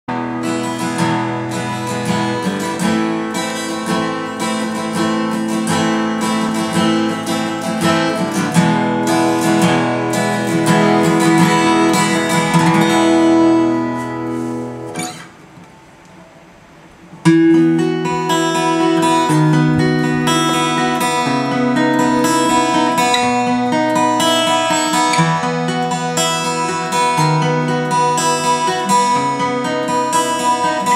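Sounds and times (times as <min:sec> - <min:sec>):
acoustic guitar strumming chords: 0:00.1 - 0:30.9.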